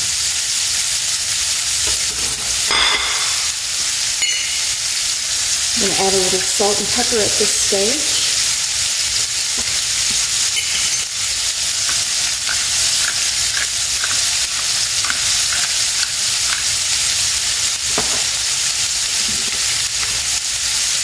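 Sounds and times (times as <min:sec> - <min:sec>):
meat sizzling in fat: 0:00.0 - 0:21.0.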